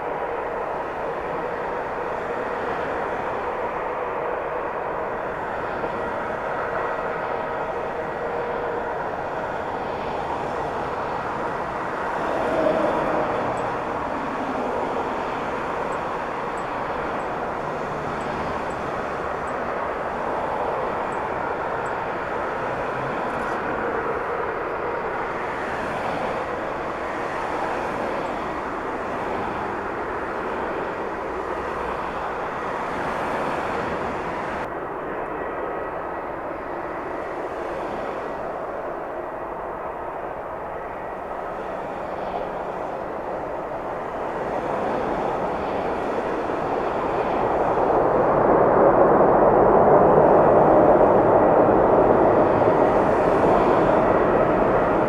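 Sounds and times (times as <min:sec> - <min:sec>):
jet engines rushing with whine: 0:00.0 - 0:55.0.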